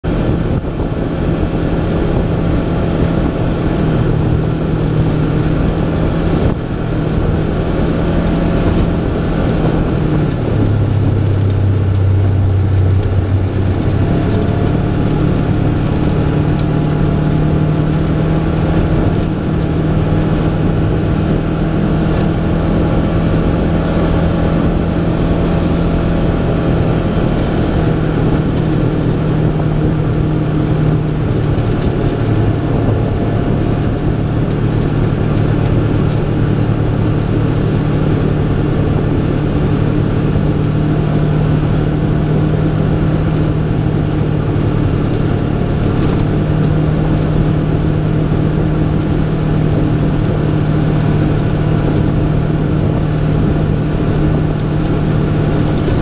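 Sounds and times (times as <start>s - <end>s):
off-road vehicle engine droning: 0.0s - 56.0s
rumble of tyres on gravel: 0.0s - 56.0s.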